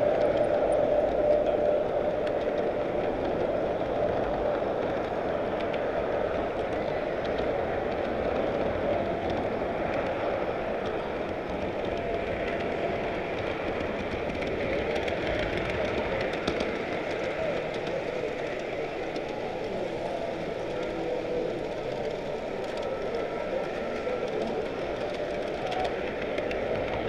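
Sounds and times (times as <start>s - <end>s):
model train whine: 0.0s - 27.0s.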